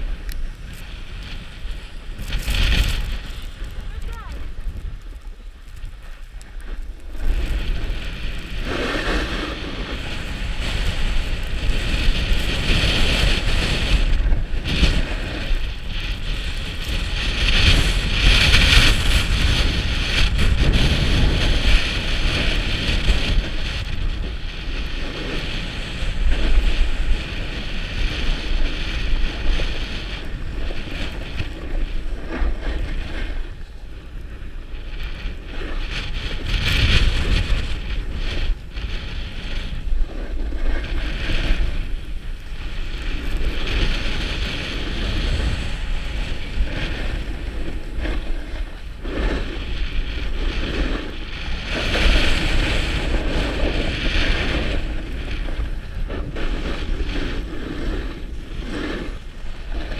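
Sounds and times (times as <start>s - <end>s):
low rumble: 0.0s - 59.9s
ski edges scraping snow: 0.0s - 59.9s
wind buffeting microphone: 0.0s - 59.9s.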